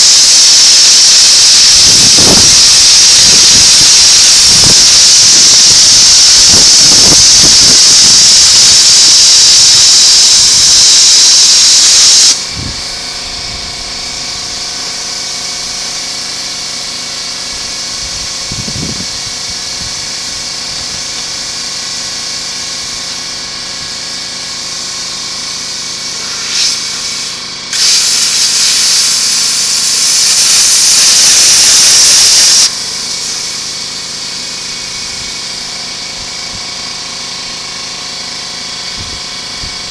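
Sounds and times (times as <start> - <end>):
loud hiss of metal cutting: 0.0 - 39.9
steady machine hum: 0.0 - 39.9.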